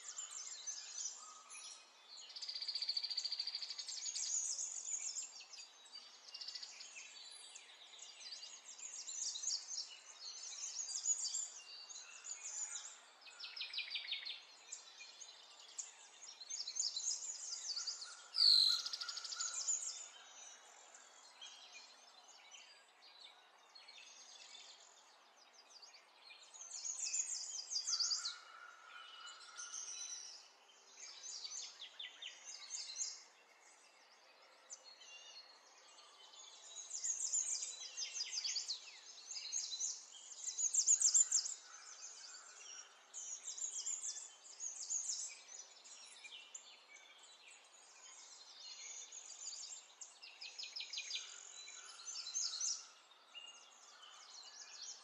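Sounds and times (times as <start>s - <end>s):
birds chirping and trilling: 0.0s - 22.7s, 24.0s - 34.1s, 34.8s - 55.0s.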